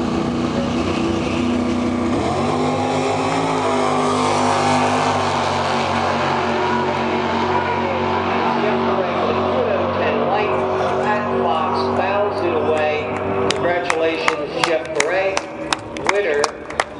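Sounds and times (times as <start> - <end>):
drag cars accelerating hard: 0.0 - 16.9.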